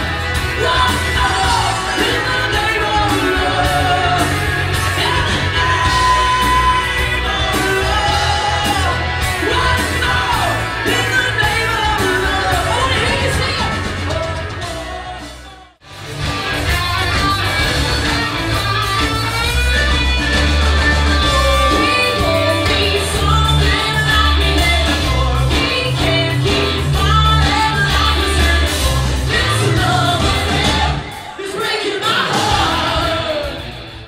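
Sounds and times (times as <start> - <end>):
singer: 0.0 - 15.8, 17.1 - 34.0
bass guitar: 0.0 - 31.4, 32.2 - 34.0
electric guitar: 0.0 - 31.4
drums: 0.0 - 34.0.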